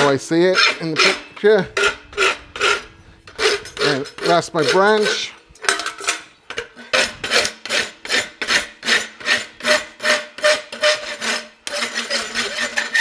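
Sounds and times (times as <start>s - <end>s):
rasp filing metal: 0.0s - 5.4s, 6.8s - 13.0s.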